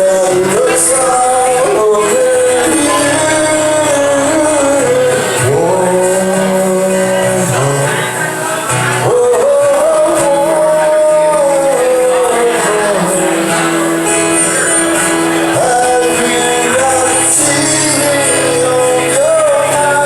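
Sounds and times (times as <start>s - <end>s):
slow country song: 0.0s - 20.0s.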